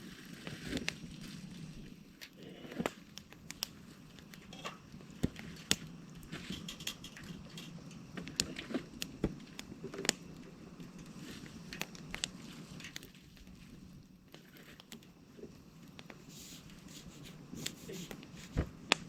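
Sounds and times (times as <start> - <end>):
campfire crackling: 0.0 - 19.0
low background hum: 0.0 - 19.0.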